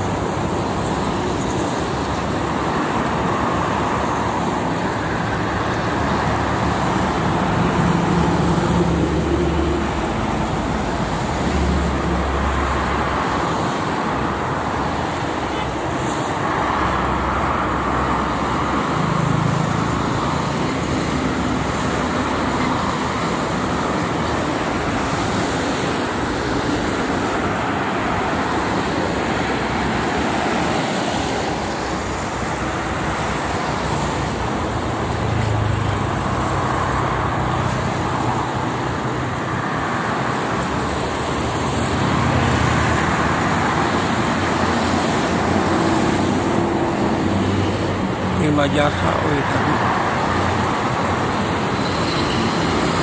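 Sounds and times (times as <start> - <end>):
vehicle engines passing: 0.0 - 53.0.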